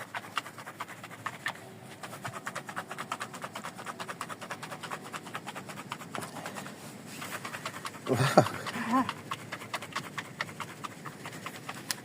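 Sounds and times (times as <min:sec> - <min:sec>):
can being shaken: 0:00.0 - 0:12.0.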